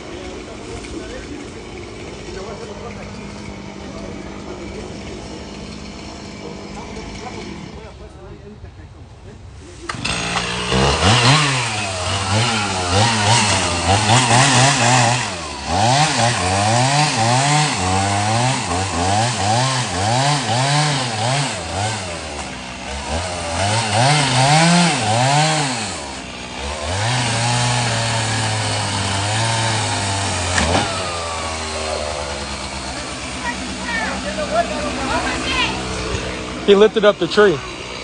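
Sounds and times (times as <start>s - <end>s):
chainsaw cutting wood: 0.0s - 7.9s, 9.9s - 38.0s.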